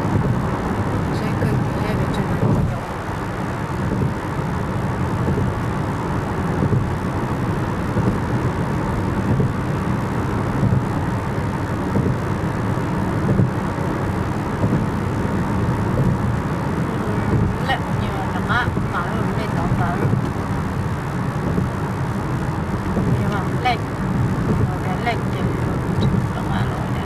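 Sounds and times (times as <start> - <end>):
car driving tyre and engine drone: 0.0 - 27.0.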